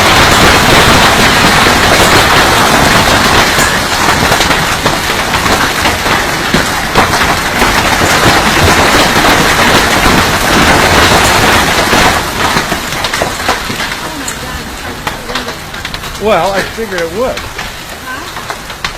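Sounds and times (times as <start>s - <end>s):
hailstones pelting down: 0.0s - 18.9s.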